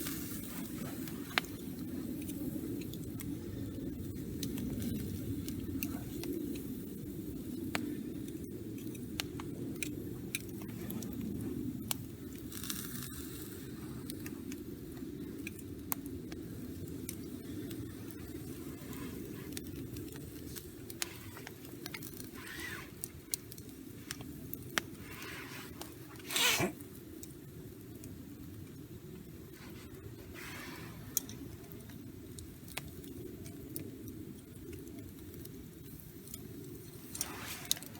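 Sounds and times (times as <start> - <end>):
wood fire crackling and popping: 0.0 - 37.9.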